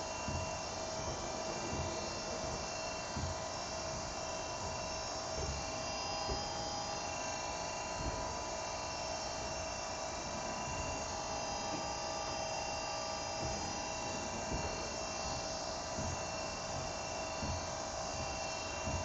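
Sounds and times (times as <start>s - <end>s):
machine electrical hum: 0.0s - 19.0s
steady whining tones: 0.0s - 19.0s.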